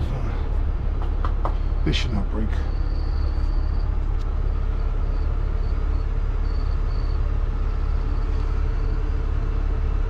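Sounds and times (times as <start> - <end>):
crickets chirping: 0.0 - 10.0
diesel engine rumbling: 0.0 - 10.0.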